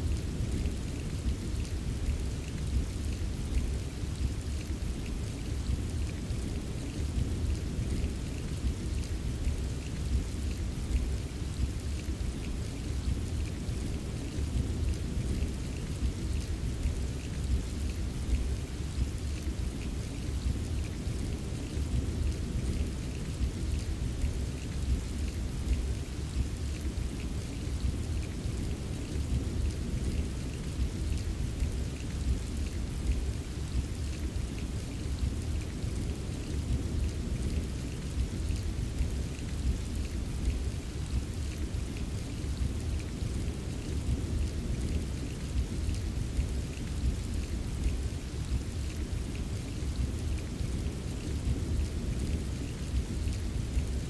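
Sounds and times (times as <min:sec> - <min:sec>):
low rain rumble: 0:00.0 - 0:54.0
rain drops ticking: 0:00.0 - 0:54.0.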